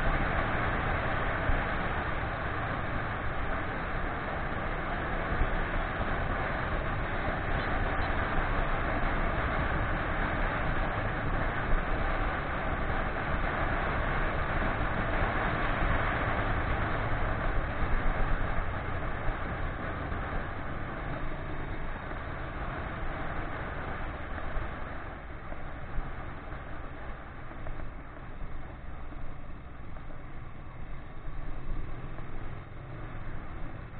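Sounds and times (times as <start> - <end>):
motorcycle engine: 0.0 - 33.9
wind and road rush: 0.0 - 33.9.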